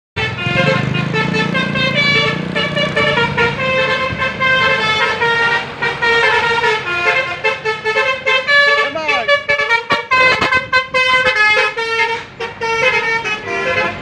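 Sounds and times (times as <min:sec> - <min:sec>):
bus engine running: 0:00.2 - 0:14.0
multi-tone air horn tune: 0:00.2 - 0:14.0.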